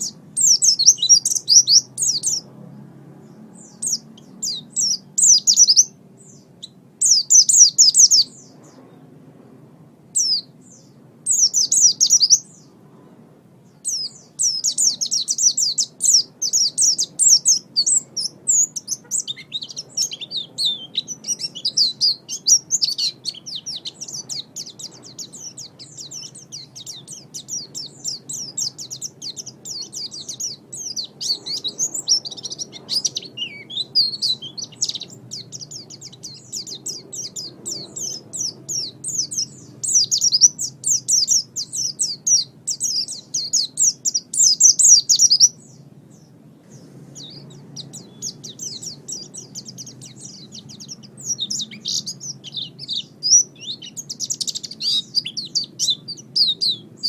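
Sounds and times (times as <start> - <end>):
bird twittering: 0.0 - 2.5, 3.2 - 9.0, 10.2 - 12.8, 13.7 - 57.0.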